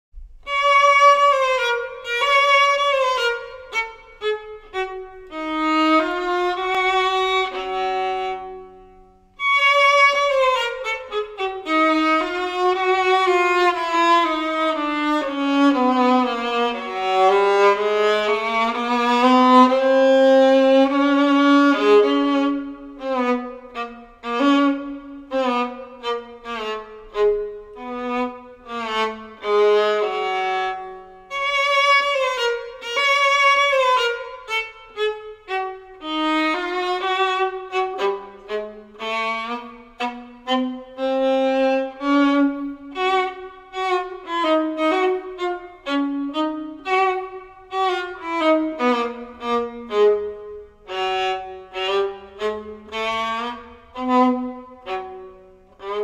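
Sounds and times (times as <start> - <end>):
solo violin melody: 0.2 - 56.0.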